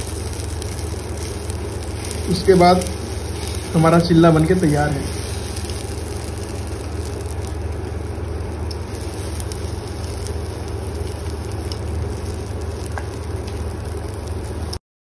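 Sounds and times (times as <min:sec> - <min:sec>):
low hum with hiss: 0:00.0 - 0:14.8.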